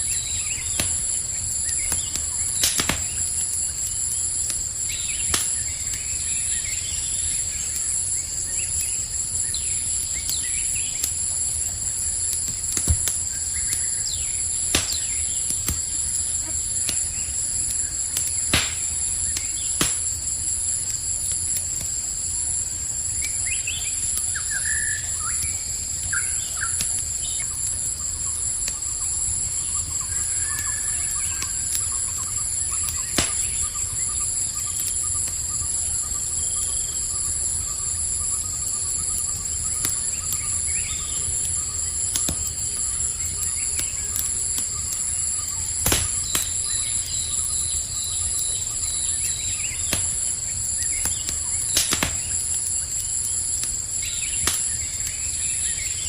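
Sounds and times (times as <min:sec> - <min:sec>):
campfire crackling: 0:00.0 - 0:56.0
crickets chirping: 0:00.0 - 0:56.0
sharp pops of fire: 0:00.0 - 0:56.0.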